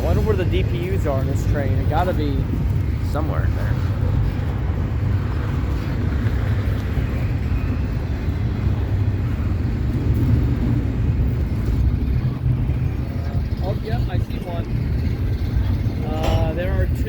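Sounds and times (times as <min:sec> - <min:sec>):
freight cars rattling: 0:00.0 - 0:17.0
steel wheels rumbling on rail: 0:00.0 - 0:17.0.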